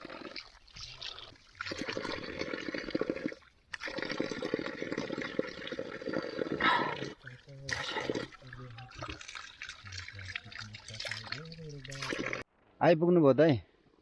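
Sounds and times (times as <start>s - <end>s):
water running and splashing: 0.0s - 12.4s.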